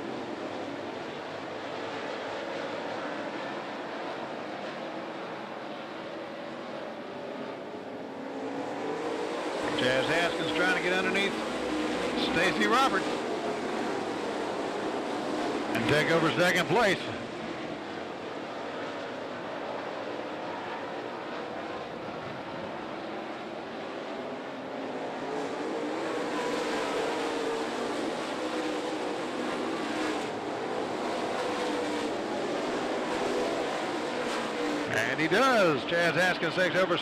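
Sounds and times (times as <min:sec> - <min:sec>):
race car engines droning: 0:00.0 - 0:37.0.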